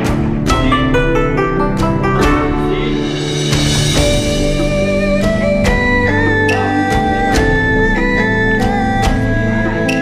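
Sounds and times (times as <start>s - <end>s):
drum strokes: 0.0s - 9.5s
instrumental background music: 0.0s - 10.0s.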